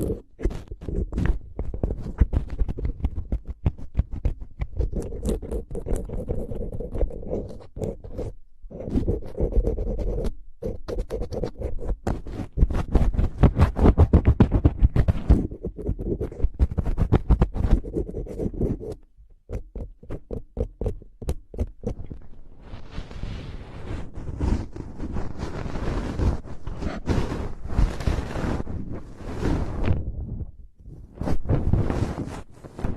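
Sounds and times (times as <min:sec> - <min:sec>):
rapid scratching on surface: 0:00.0 - 0:30.0, 0:31.2 - 0:32.9.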